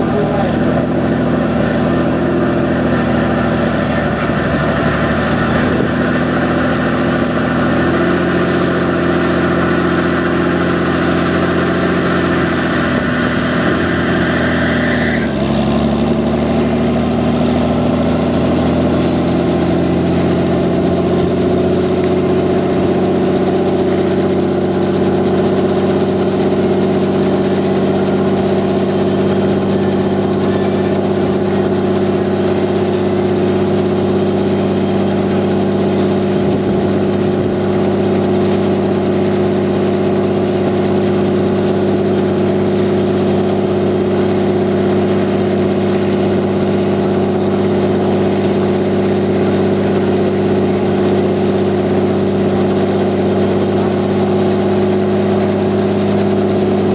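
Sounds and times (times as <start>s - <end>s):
helicopter piston engine running: 0.0s - 56.9s
high whine: 0.0s - 56.9s
main rotor spinning: 0.0s - 56.9s.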